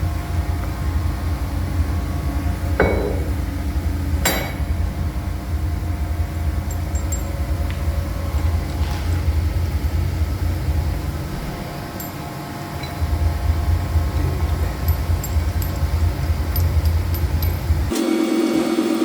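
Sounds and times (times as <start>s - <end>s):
machining center rumble: 0.0s - 18.8s
faint steady tones: 0.0s - 19.0s.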